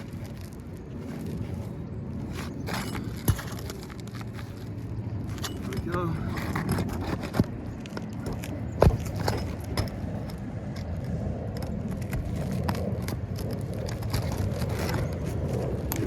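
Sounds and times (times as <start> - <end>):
hand tools on roof shingles: 0.0 - 11.0, 11.6 - 16.0.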